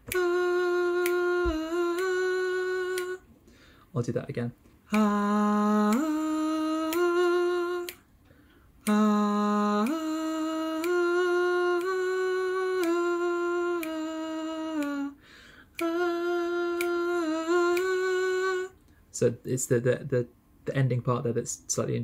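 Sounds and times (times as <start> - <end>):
man singing unaccompanied: 0.0 - 3.3, 4.0 - 8.1, 8.8 - 22.0.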